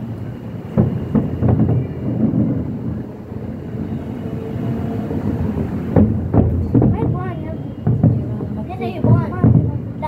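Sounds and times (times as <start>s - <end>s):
fireworks booming: 0.0s - 10.0s
rolling rumble of bursts: 0.0s - 10.0s.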